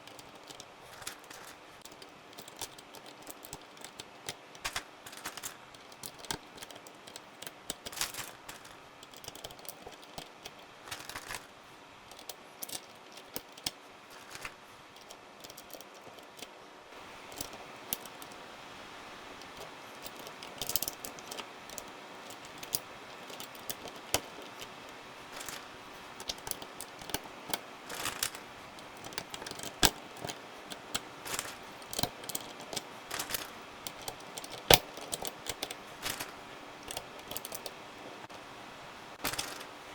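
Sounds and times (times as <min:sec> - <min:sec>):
plastic keycaps clicking and clattering: 0:00.0 - 0:11.5, 0:12.1 - 0:37.8, 0:39.2 - 0:39.8.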